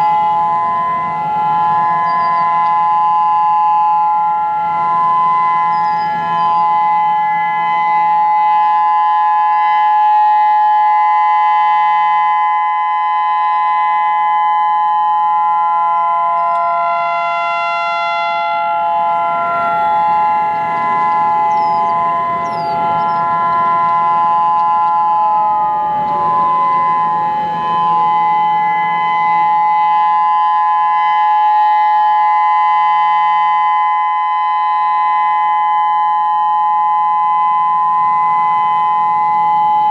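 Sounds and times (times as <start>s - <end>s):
electronic warning siren: 0.0s - 39.9s.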